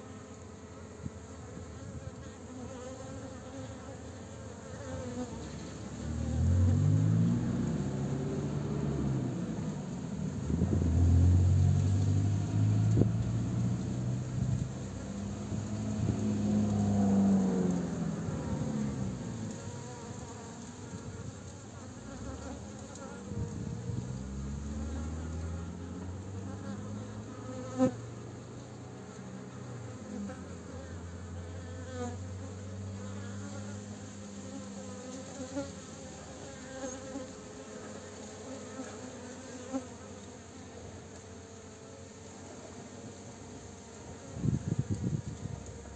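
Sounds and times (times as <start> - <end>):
bees buzzing in flight: 0.0 - 45.9.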